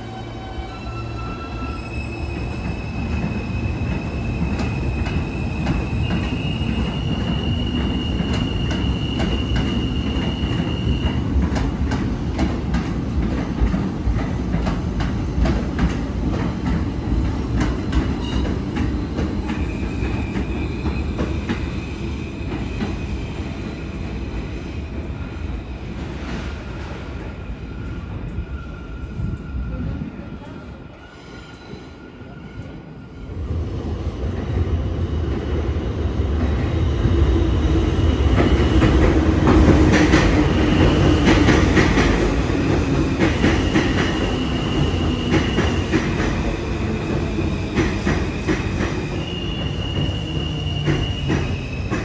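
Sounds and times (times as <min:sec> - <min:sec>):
train wheels squealing: 0:00.0 - 0:12.0, 0:16.4 - 0:33.4, 0:37.9 - 0:52.0.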